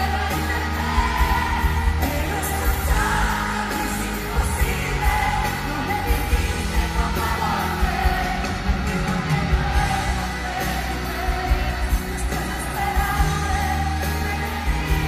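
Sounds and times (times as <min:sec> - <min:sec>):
live pop music with woman singing: 0:00.0 - 0:15.0.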